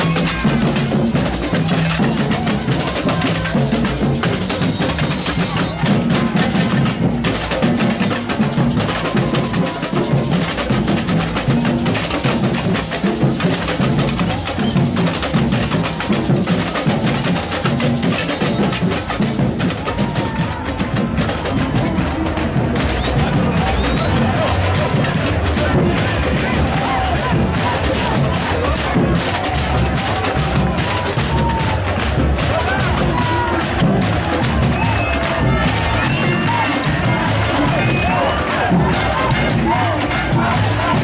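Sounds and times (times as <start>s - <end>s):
samba drum section playing: 0.0s - 41.0s.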